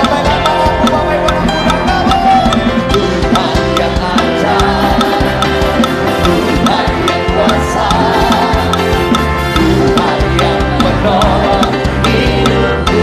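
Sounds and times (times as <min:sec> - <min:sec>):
band playing worship song: 0:00.0 - 0:13.0
drum kit beat: 0:00.0 - 0:13.0.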